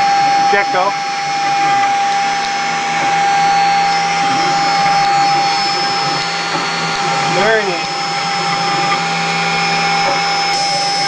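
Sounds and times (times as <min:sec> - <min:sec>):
spindle high whine: 0:00.0 - 0:11.0
bit cutting wood: 0:00.2 - 0:11.0.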